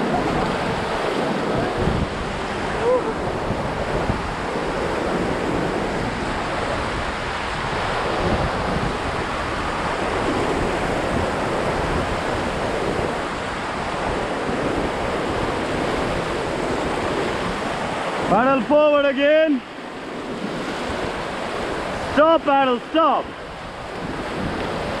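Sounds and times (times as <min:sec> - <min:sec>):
wind buffeting microphone: 0:00.0 - 0:18.3, 0:19.7 - 0:22.2, 0:23.2 - 0:25.0
whitewater rushing: 0:00.0 - 0:25.0.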